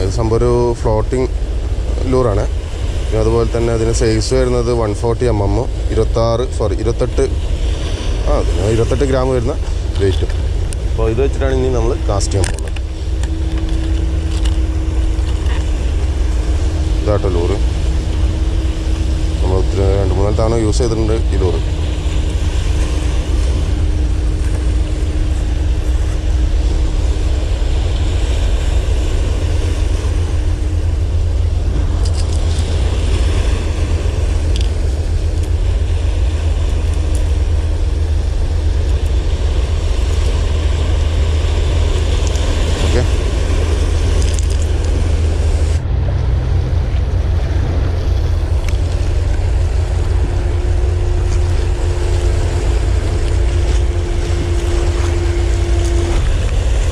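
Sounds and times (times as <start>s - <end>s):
sea waves washing: 0.0s - 56.9s
wind buffeting microphone: 0.0s - 56.9s.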